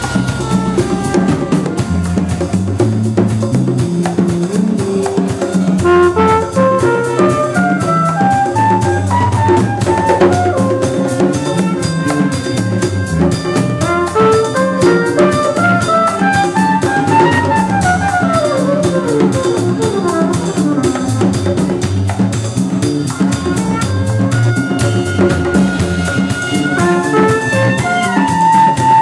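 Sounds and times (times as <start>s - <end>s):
trumpets playing melody: 0.0s - 3.0s, 4.9s - 22.2s, 23.0s - 29.0s
drum kit groove: 0.0s - 29.0s.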